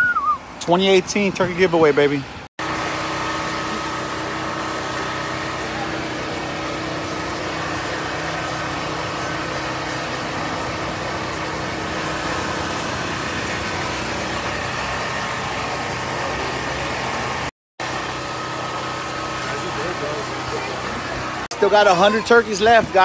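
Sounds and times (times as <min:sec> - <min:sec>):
engine idling: 0:00.1 - 0:23.0.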